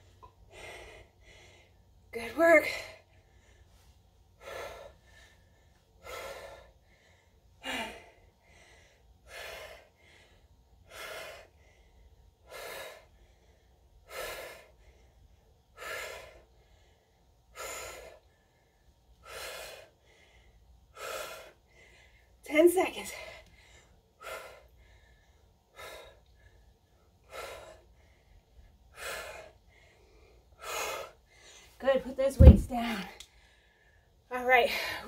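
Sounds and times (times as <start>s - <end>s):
woman breathing hard: 0.1s - 2.0s, 2.6s - 22.4s, 23.0s - 31.8s.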